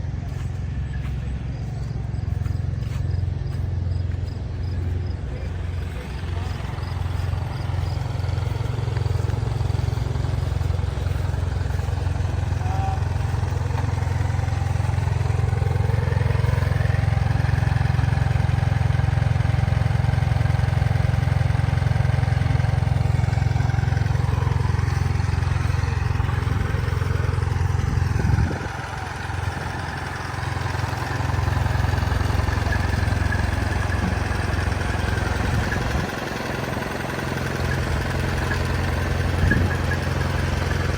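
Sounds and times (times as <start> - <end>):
engine chugging: 0.0 - 40.9.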